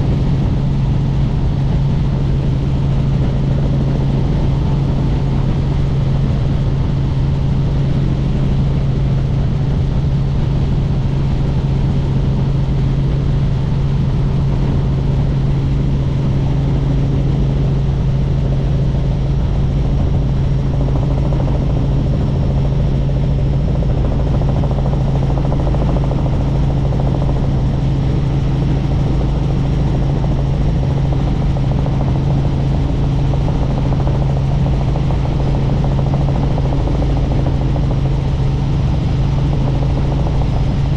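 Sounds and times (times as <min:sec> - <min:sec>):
helicopter rotor drone: 0:00.0 - 0:40.9.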